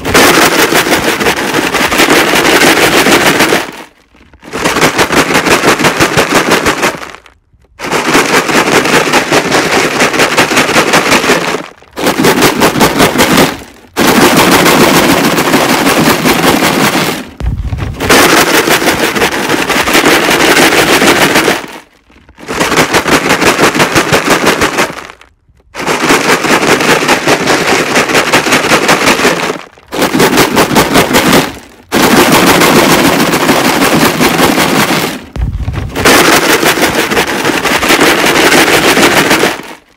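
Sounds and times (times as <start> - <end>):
rocks rattling in plastic jug: 0.0 - 39.9.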